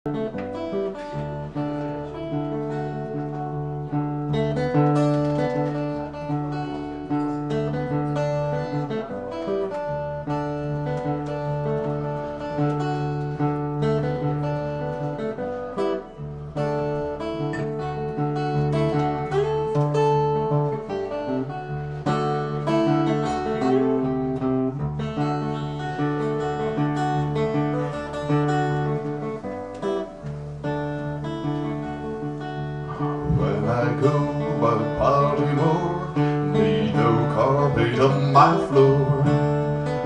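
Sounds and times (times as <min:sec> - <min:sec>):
acoustic guitar blues: 0:00.0 - 0:40.0.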